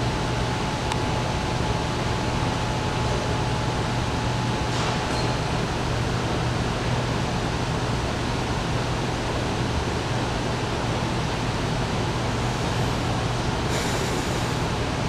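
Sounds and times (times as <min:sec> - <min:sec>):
ventilation rushing noise: 0:00.0 - 0:15.0.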